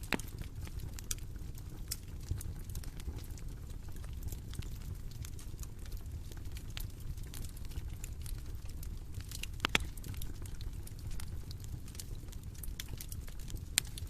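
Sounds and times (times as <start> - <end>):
bonfire crackling: 0.0 - 14.0
fire pops and snaps: 0.0 - 14.0.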